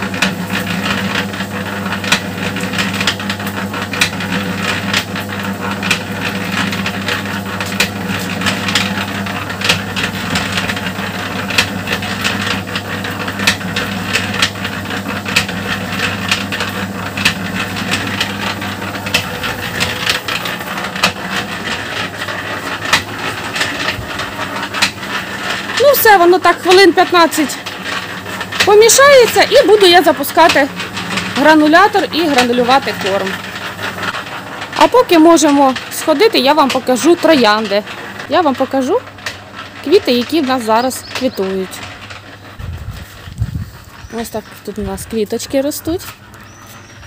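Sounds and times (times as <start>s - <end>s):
mixer drum clicks and knocks: 0.0s - 46.5s
concrete mixer motor hum: 0.0s - 47.0s.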